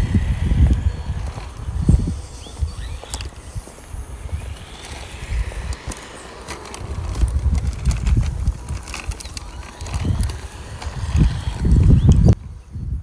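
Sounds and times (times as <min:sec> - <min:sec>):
tyres crackling on rough ground: 0:00.0 - 0:12.4
wind rumble on microphone: 0:00.0 - 0:13.0.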